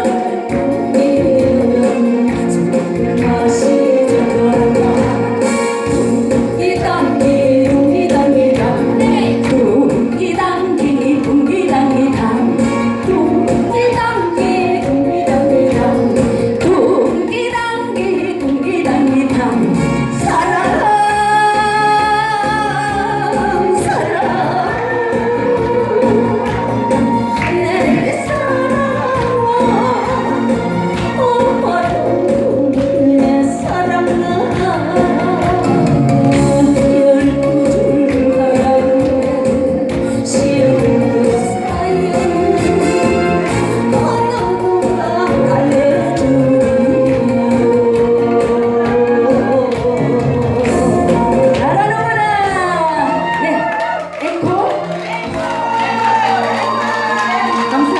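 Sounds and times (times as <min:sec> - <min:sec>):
plucked instrumental backing: 0:00.0 - 0:57.9
woman singing: 0:00.0 - 0:57.9.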